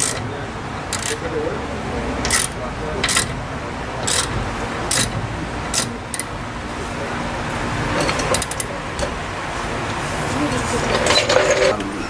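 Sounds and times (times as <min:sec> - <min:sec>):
hand tools clinking on metal: 0:00.0 - 0:12.0.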